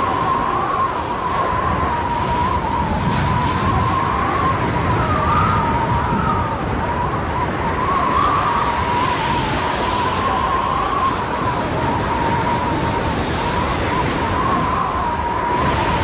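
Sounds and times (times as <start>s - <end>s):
storm wind howling: 0.0s - 16.0s.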